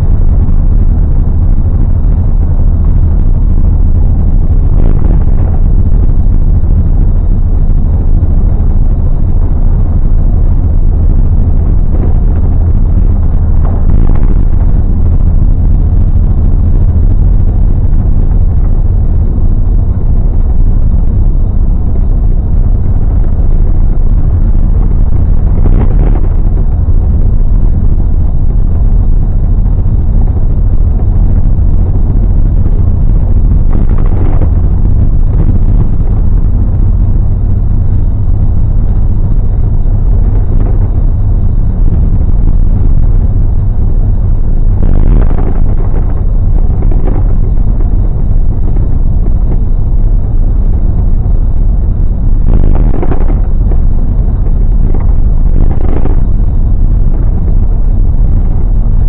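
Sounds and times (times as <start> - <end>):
bus road and engine rumble: 0.0 - 57.6.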